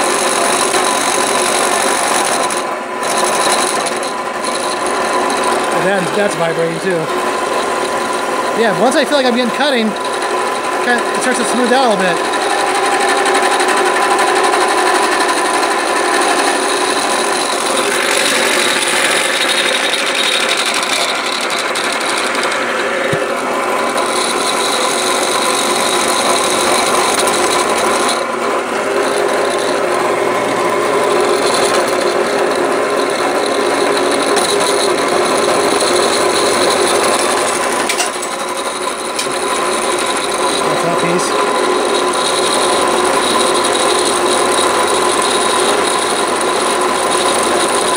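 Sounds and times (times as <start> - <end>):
drill press milling aluminum: 0.0 - 47.9.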